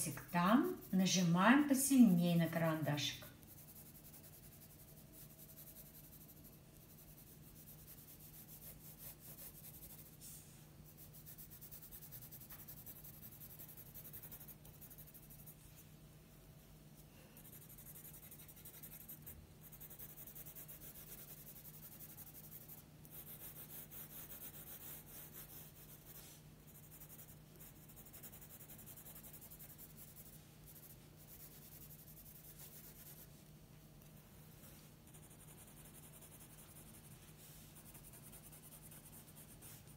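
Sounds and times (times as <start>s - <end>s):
pencil scratching on paper: 0.0s - 10.2s, 10.9s - 15.7s, 17.4s - 33.3s, 34.6s - 39.9s
steady low hum: 0.0s - 39.9s.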